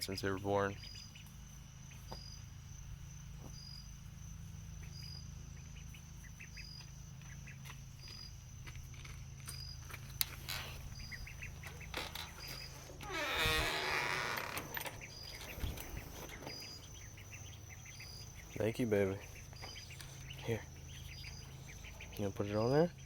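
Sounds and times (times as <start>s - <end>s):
crickets chirping: 0.0s - 23.0s
high insect trill: 0.0s - 23.0s
young ducks calling softly: 0.0s - 23.0s.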